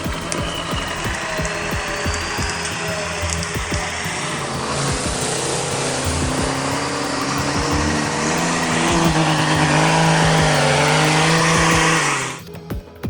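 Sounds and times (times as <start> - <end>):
dense rushing noise: 0.0 - 12.4.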